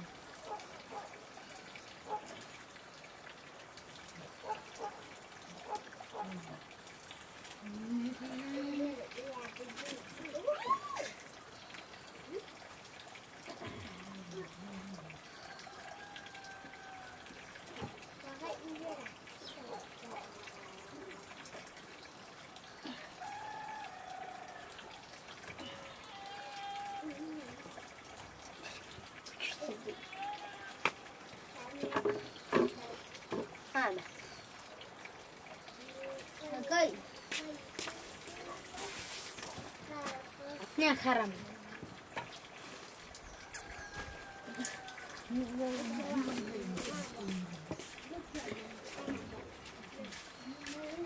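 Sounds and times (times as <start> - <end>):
water dripping: 0.0 - 51.0.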